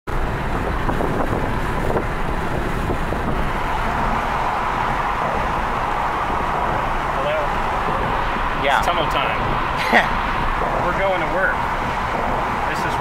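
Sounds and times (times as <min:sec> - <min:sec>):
tyre and road noise: 0:00.1 - 0:13.0
wind noise: 0:00.1 - 0:13.0.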